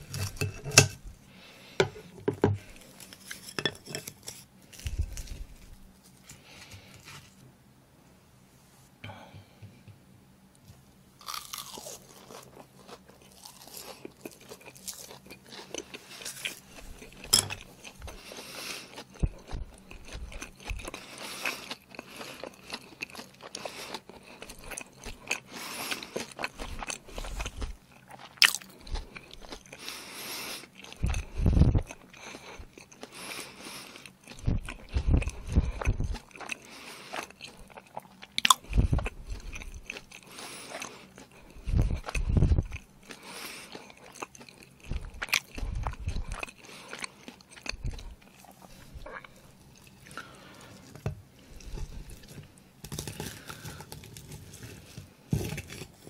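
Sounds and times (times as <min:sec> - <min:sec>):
crunchy chewing: 0:00.0 - 0:07.4, 0:11.2 - 0:56.0.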